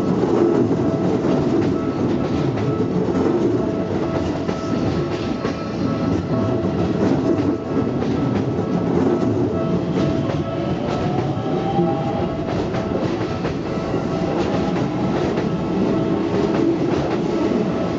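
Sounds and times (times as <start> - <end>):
electric train rumbling: 0.0 - 17.9.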